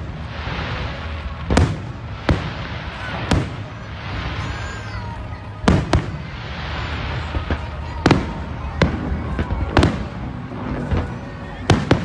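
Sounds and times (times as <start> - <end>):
steady noisy hiss: 0.0 - 12.0.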